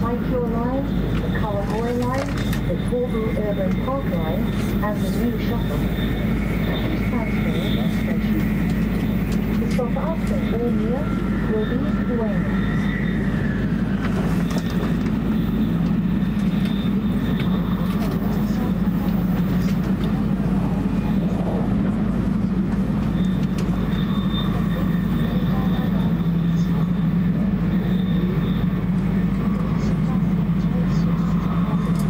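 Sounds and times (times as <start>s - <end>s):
train interior low rumble: 0.0s - 32.0s.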